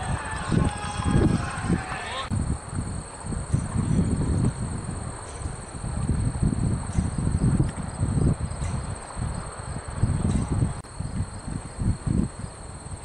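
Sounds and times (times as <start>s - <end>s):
insects chirping: 0.0s - 13.0s
wind rumble on microphone: 0.0s - 13.0s.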